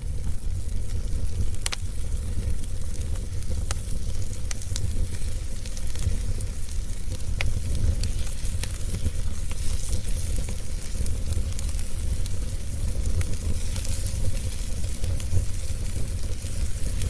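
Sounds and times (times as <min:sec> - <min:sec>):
fire pops and snaps: 0:00.0 - 0:17.0
fireplace fire crackling: 0:00.0 - 0:17.0.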